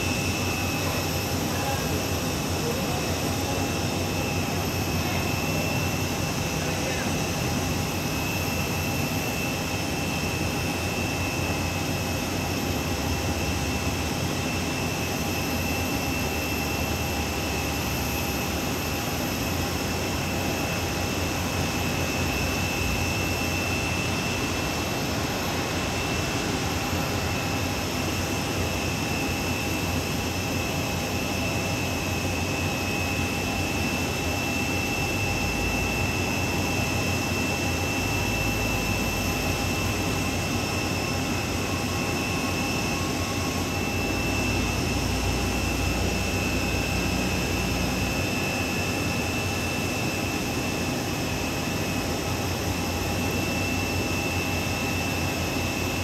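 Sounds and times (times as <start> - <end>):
jet turbine whine and roar: 0.0 - 56.0.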